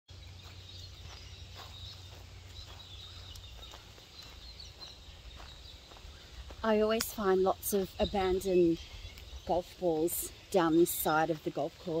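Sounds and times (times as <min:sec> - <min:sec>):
distant birds chirping: 0:00.1 - 0:12.0.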